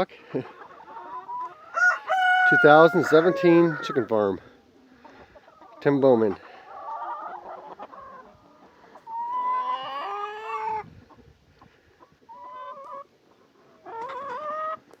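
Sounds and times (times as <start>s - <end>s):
chickens calling: 0.0s - 15.0s.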